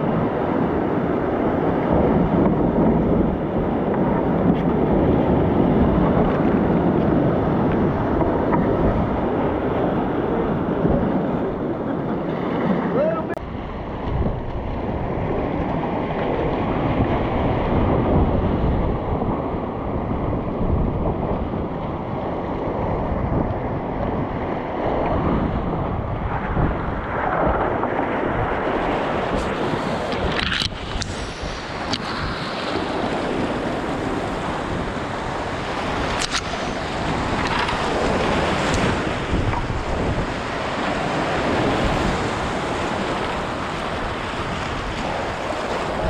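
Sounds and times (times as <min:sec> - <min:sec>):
whitewater rushing and splashing: 0:00.0 - 0:18.3, 0:26.4 - 0:46.0
wind noise on microphone: 0:00.0 - 0:46.0.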